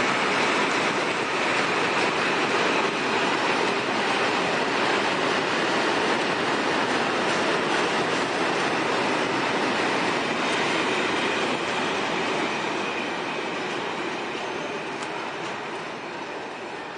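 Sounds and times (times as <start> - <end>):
freight train wheels clattering: 0.0 - 16.9.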